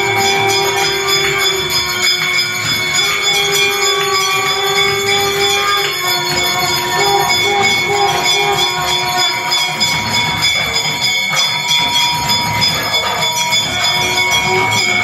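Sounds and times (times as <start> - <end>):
temple bells ringing fast: 0.0 - 15.0.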